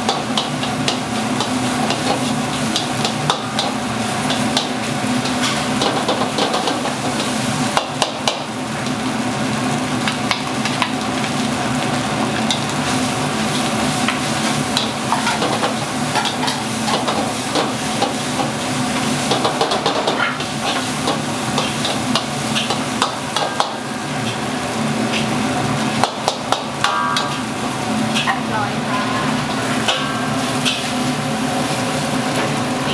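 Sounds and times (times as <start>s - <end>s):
rice sizzling in a wok: 0.0s - 32.9s.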